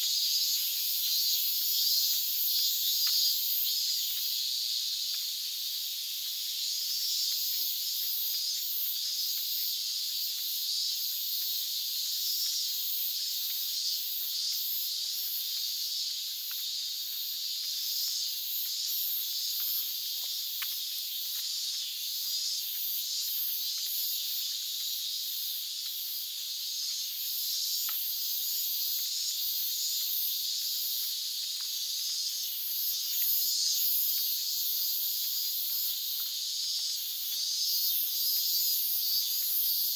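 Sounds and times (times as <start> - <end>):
cicadas buzzing in chorus: 0.0 - 39.9.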